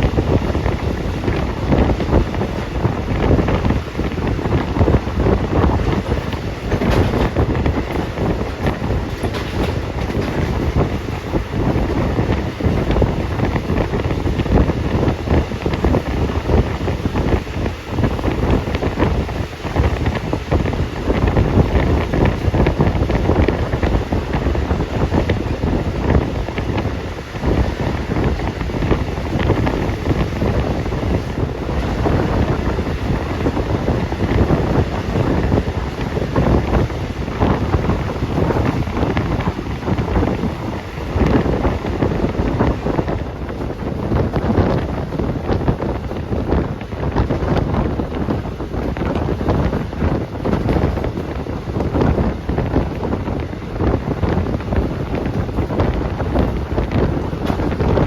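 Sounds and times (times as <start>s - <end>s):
moving vehicle noise: 0.0s - 58.0s
wind on microphone: 0.0s - 58.0s.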